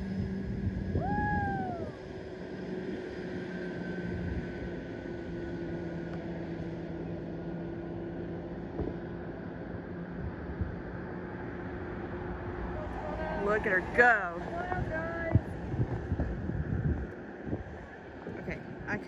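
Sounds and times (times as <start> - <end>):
distant engine drone: 0.0 - 19.0.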